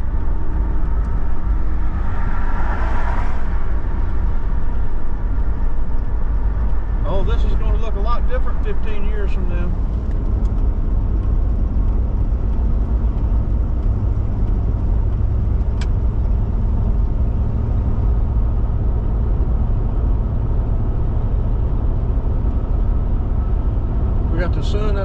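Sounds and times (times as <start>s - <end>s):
car cabin road and engine rumble: 0.0s - 25.0s.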